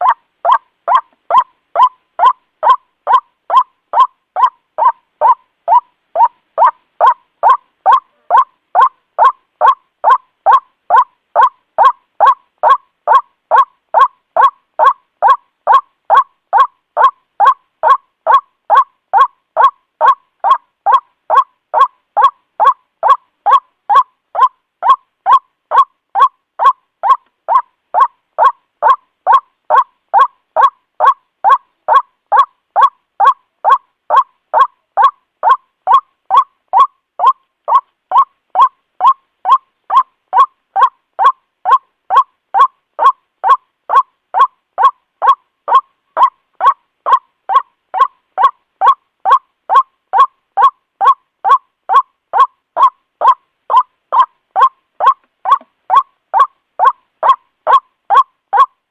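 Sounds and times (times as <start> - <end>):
bird harsh repeated call: 0.0 - 58.7.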